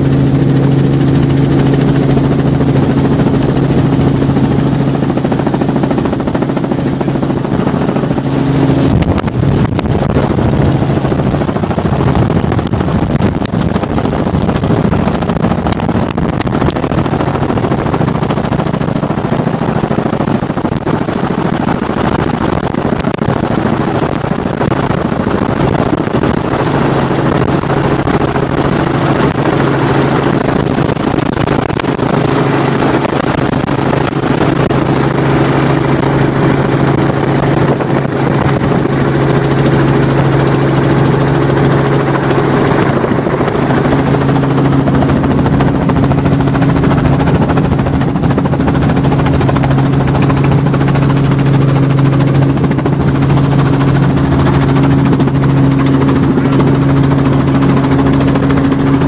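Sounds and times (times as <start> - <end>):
helicopter engine and rotor drone: 0.0 - 59.0
higher hum: 0.0 - 59.0
wind rushing: 1.5 - 59.0.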